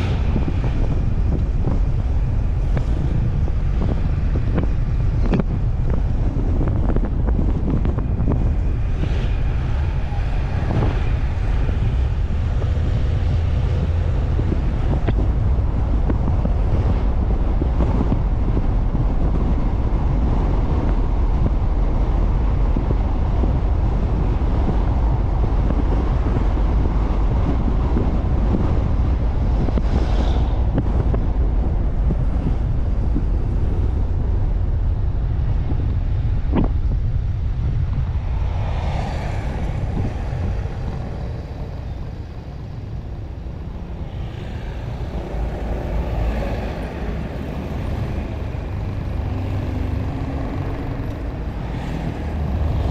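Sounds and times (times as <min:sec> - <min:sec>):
vehicle driving rumble: 0:00.0 - 0:52.9
wind on microphone: 0:00.0 - 0:52.9.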